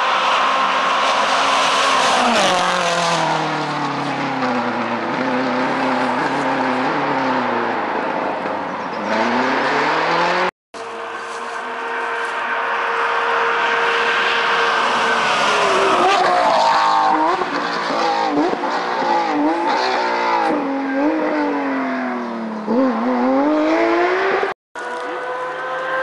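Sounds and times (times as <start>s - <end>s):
rally car engine revving: 0.7s - 26.0s.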